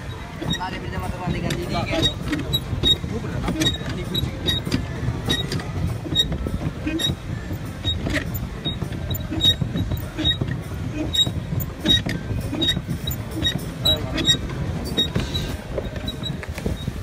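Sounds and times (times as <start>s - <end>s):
boat drive squeaking and clicking: 0.0s - 17.0s
low steady rumble: 0.0s - 17.0s.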